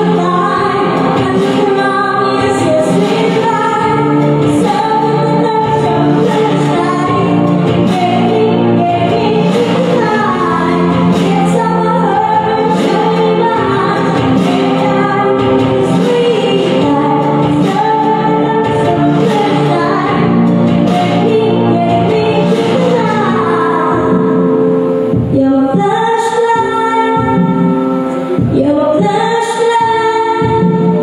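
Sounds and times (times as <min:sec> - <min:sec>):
music with steady beat: 0:00.0 - 0:31.0
woman singing into microphone: 0:00.0 - 0:31.0.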